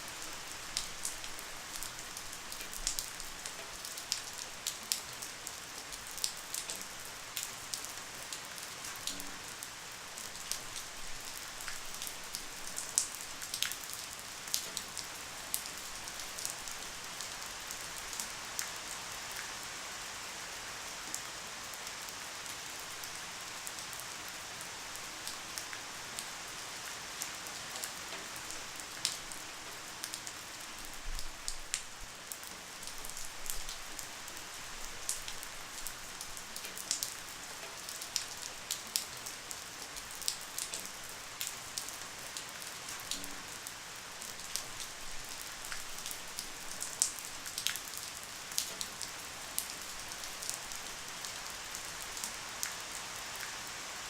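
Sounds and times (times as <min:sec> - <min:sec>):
light rain: 0:00.0 - 0:54.0.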